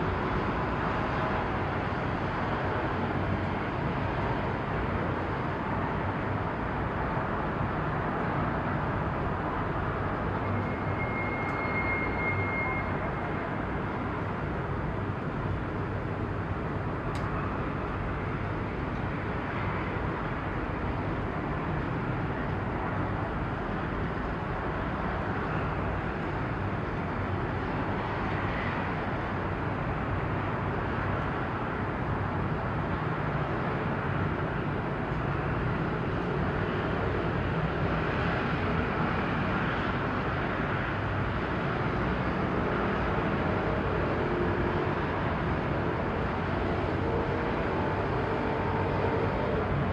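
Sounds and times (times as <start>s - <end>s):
rumble of distant engines and traffic: 0.0s - 49.9s.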